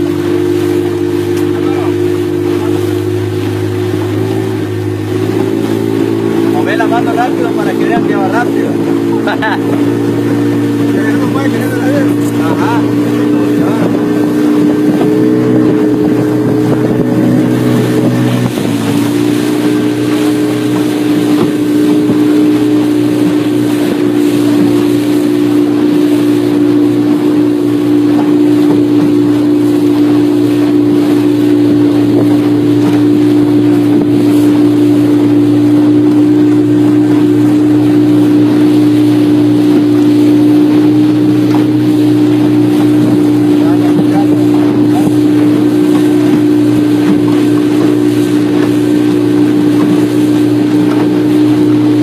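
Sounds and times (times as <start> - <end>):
motorboat engine running: 0.0 - 52.0
wind on microphone: 0.0 - 52.0.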